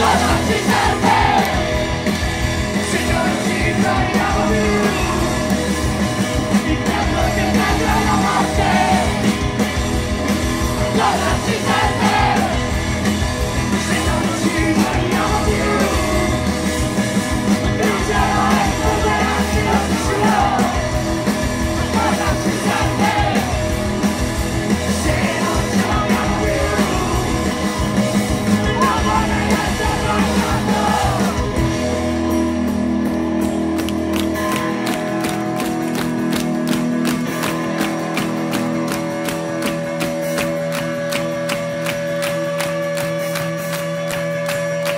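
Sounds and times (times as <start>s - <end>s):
drums: 0.0s - 44.9s
electric guitars: 0.0s - 44.9s.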